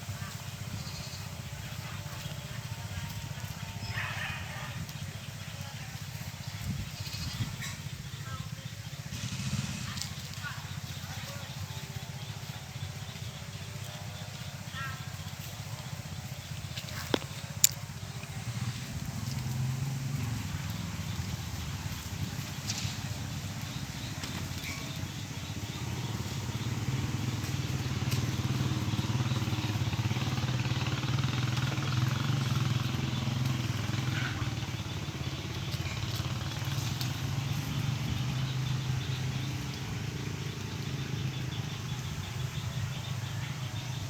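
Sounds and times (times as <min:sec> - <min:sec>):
motor engine humming: 0:00.0 - 0:44.0.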